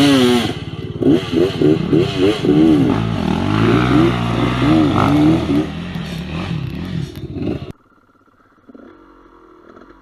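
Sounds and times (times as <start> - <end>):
two-stroke motorcycle engine revving: 0.0 - 7.8, 8.4 - 10.0.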